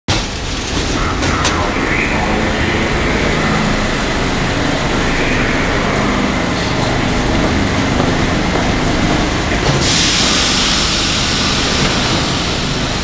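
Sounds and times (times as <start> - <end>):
subway train rumbling: 0.1 - 13.0.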